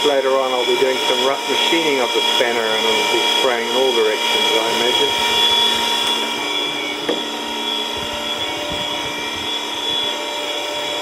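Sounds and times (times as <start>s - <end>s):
cnc mill whine: 0.0s - 11.0s
drill cutting steel: 0.0s - 11.0s.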